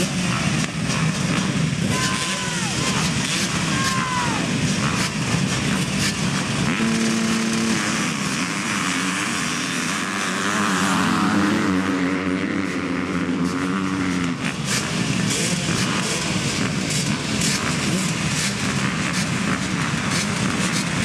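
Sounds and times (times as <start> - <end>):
dirt bike engine at steady revs: 0.0 - 21.0
dirt bike engines revving hard: 0.0 - 21.0.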